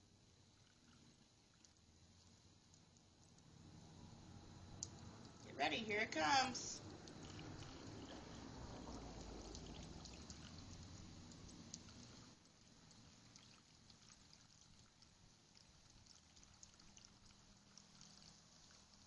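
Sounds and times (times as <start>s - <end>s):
faint fizzing and bubbling: 0.0s - 19.0s.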